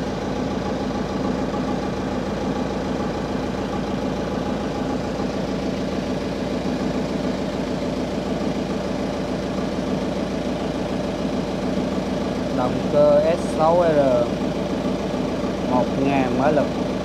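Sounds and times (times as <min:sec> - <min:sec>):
diesel generator running: 0:00.0 - 0:17.0.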